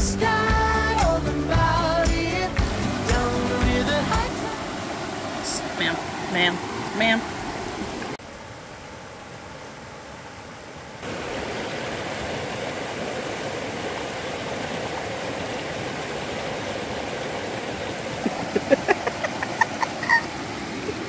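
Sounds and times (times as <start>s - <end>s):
river rushing: 0.2s - 21.0s.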